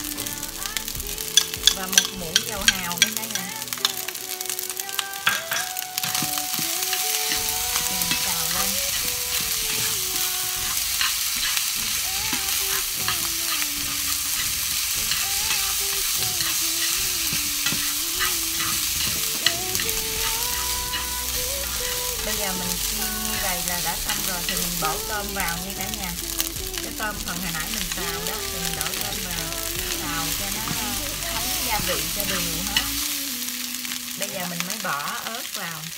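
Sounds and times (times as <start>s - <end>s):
fried rice sizzling in oil: 0.0s - 35.9s.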